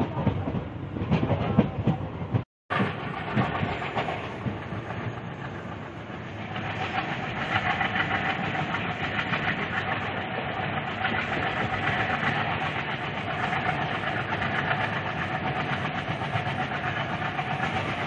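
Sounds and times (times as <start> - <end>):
running train rumble and hiss: 0.0 - 18.0
train wheels clattering over rail joints: 0.0 - 18.0.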